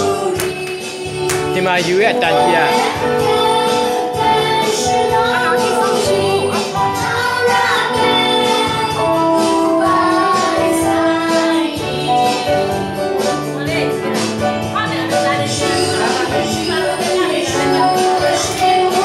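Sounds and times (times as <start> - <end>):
children and women singing: 0.0 - 1.4, 2.3 - 12.9, 14.8 - 19.0
instrumental accompaniment: 0.0 - 19.0.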